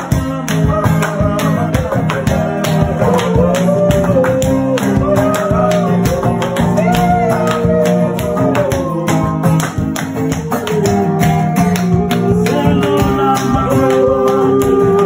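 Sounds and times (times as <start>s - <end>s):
instrumental backing with percussion: 0.0s - 15.0s
person singing long notes: 0.0s - 15.0s.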